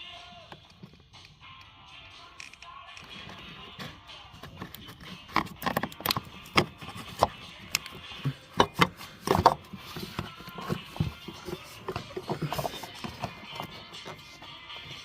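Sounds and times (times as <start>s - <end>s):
hard objects clicking and knocking: 2.4s - 15.0s.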